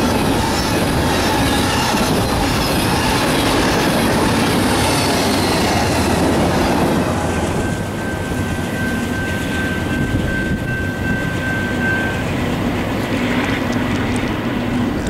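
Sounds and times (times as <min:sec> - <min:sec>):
thin steady squeal: 0:00.0 - 0:14.8
train wheels rumbling on rail: 0:00.0 - 0:15.0.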